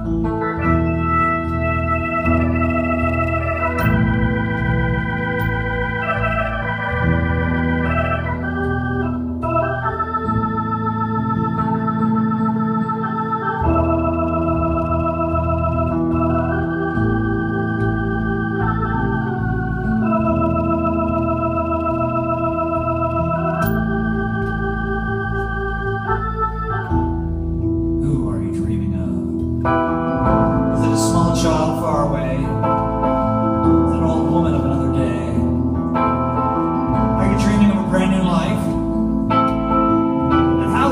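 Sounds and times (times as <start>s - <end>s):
organ chords: 0.0s - 40.9s.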